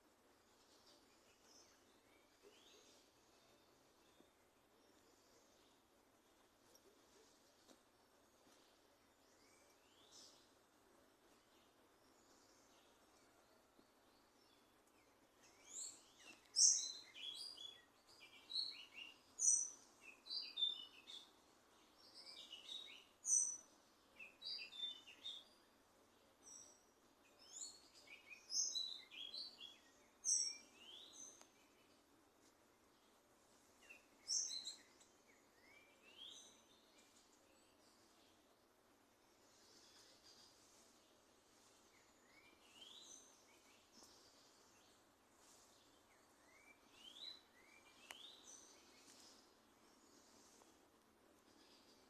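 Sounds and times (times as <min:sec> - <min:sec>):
faint steady background noise: 0:00.0 - 0:52.0
small birds chirping: 0:00.0 - 0:52.0.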